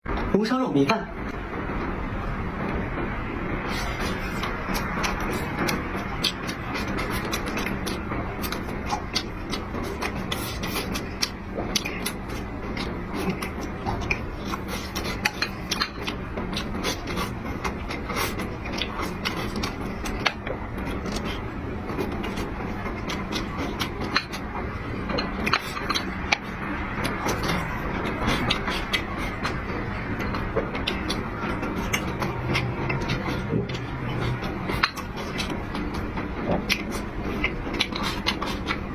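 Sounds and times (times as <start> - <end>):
chewing with clicks and smacks: 3.6 - 38.9.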